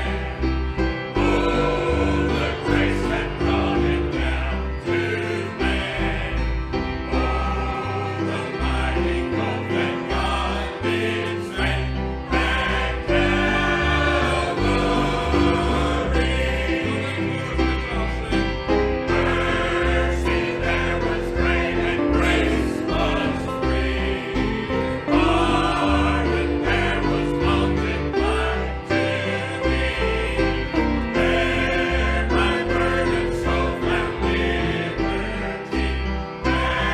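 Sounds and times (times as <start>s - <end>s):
congregation singing a hymn: 0.0s - 36.9s
instrumental accompaniment: 0.0s - 36.9s.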